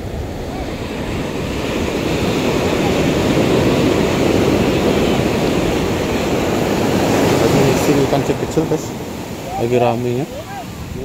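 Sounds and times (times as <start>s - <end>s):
sea surf washing up beach: 0.0s - 11.0s
wave breaking: 0.0s - 11.0s.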